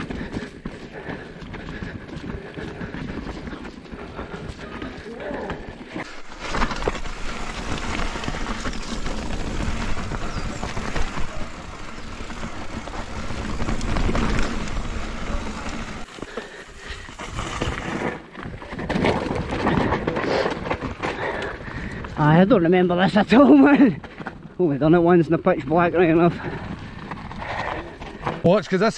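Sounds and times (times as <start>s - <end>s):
bike knocking and rattling: 0.0s - 22.3s, 23.3s - 28.8s
tyre and wind noise: 0.0s - 28.7s.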